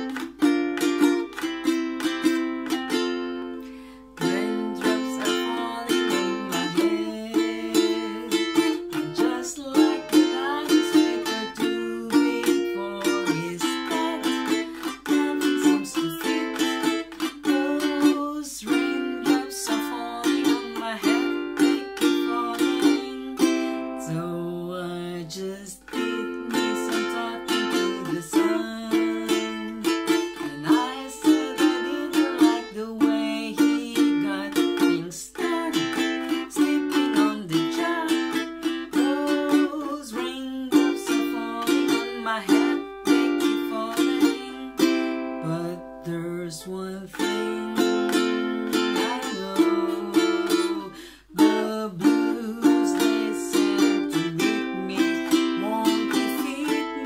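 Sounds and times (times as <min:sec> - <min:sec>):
ukulele strumming: 0:00.0 - 0:57.0
woman singing: 0:00.0 - 0:57.0.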